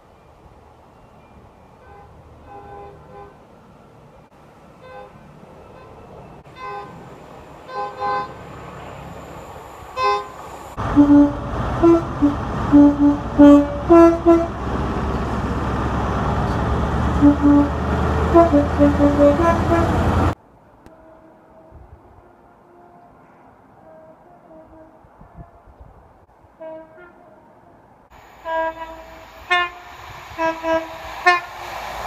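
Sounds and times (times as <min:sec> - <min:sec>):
train rumbling past: 0:00.0 - 0:32.0
distant train horn toots: 0:01.6 - 0:03.6, 0:04.7 - 0:15.5, 0:16.2 - 0:25.8, 0:26.5 - 0:31.8
train two-tone horn toots: 0:01.7 - 0:03.5, 0:04.8 - 0:15.3, 0:16.5 - 0:25.8, 0:26.6 - 0:31.8.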